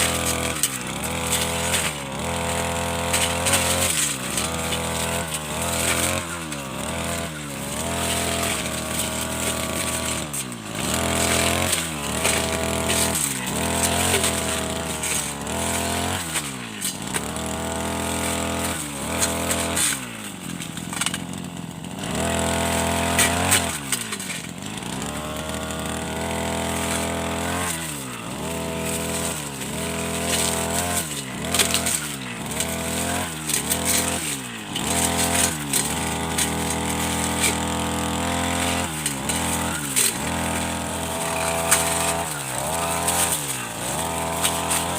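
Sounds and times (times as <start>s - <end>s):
brush cutter engine revving: 0.0s - 44.9s.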